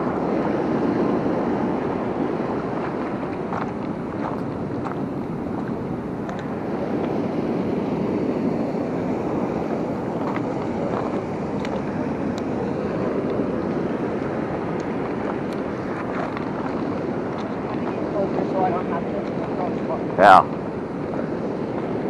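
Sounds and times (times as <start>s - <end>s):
river rushing: 0.0s - 22.0s
wind on microphone: 0.0s - 22.0s.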